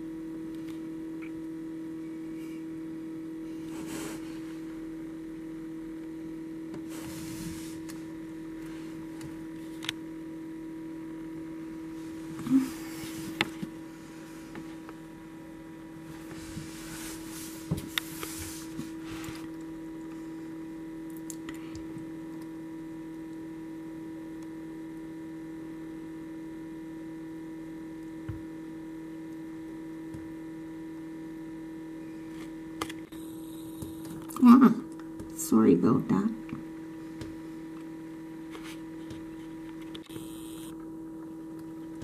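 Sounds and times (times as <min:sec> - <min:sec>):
incubator electrical hum: 0:00.0 - 0:42.0.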